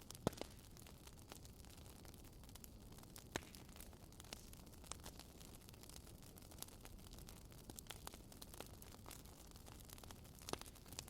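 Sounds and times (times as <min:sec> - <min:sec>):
low rumble of fire: 0:00.0 - 0:11.0
wood fire pops: 0:00.0 - 0:11.0.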